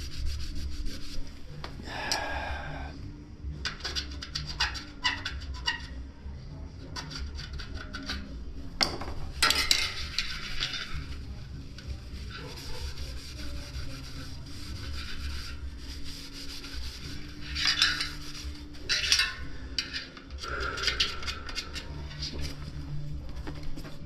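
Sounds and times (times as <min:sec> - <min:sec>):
hands scraping bicycle rim: 0:00.0 - 0:02.4, 0:03.6 - 0:06.0, 0:06.8 - 0:08.3, 0:09.3 - 0:22.8.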